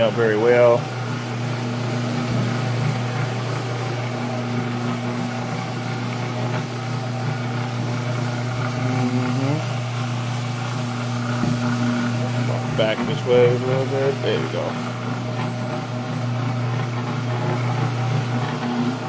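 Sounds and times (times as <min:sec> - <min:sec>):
floor machine motor hum: 0:00.0 - 0:19.0.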